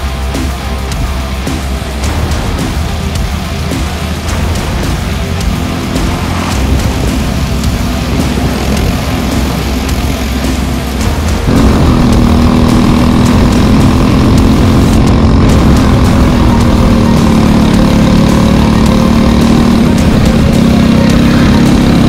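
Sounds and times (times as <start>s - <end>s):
kart engine running: 0.0s - 22.0s.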